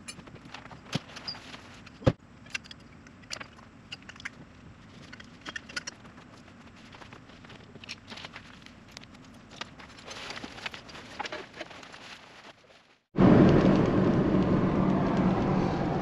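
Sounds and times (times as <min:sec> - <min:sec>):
clicks and rustles: 0:00.0 - 0:13.9.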